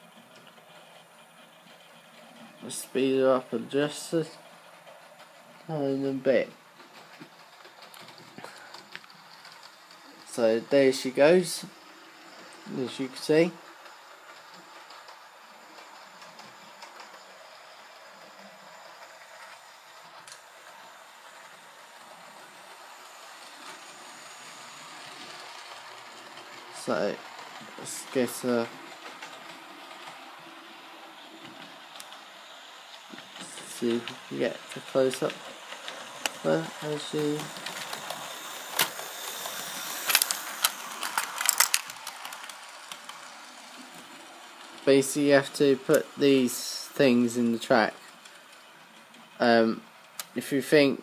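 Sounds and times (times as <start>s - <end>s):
model train running on rails: 0.0s - 51.0s.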